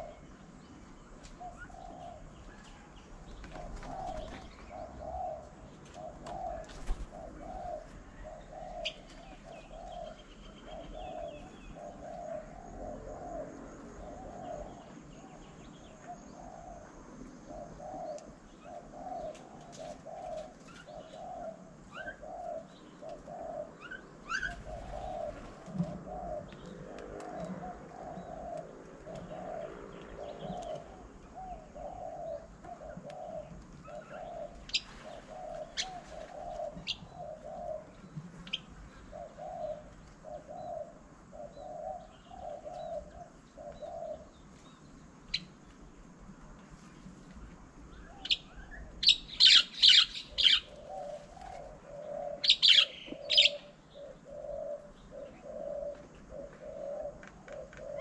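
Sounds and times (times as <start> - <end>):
dove cooing: 0.0 - 0.6, 1.4 - 44.5, 48.1 - 58.0
birds chirping: 0.0 - 45.8, 46.9 - 58.0.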